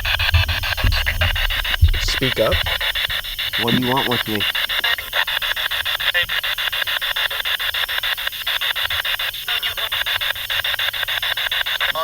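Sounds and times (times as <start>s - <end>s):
chopped radio static hiss: 0.0s - 12.0s.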